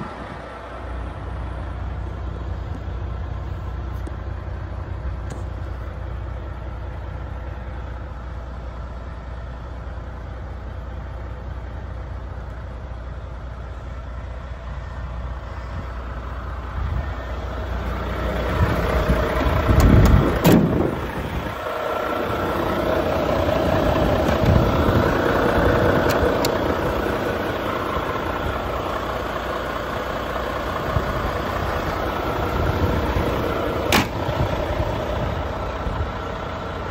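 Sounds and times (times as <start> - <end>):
diesel truck engine idling: 0.0 - 36.9
engine rush: 0.0 - 36.9.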